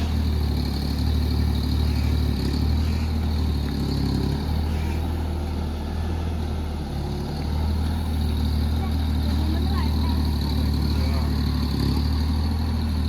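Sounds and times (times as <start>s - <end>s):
excavator diesel engine droning: 0.0s - 13.0s.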